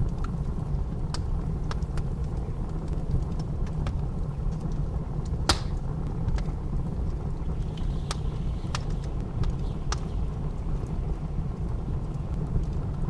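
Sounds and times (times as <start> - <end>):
blizzard wind rumble: 0.0 - 13.0
wood fire crackling: 0.0 - 13.0.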